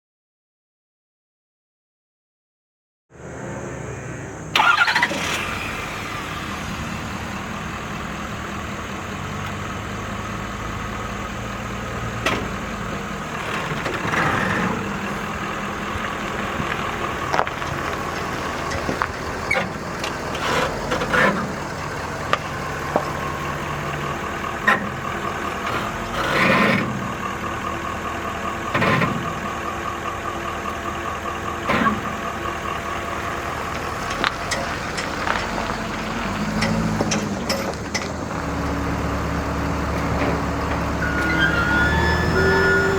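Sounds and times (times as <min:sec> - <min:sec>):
truck engine idling: 0:03.2 - 0:42.9.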